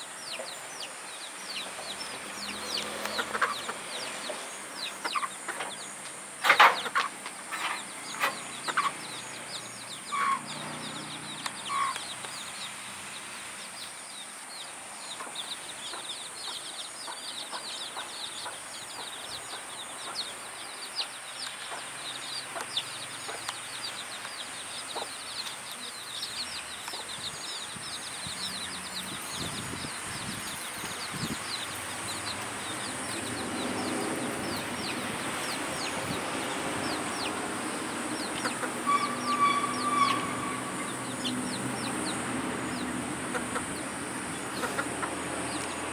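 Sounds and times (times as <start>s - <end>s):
chickens clucking: 0.1s - 13.1s, 15.1s - 45.9s
chicks peeping: 0.2s - 45.9s.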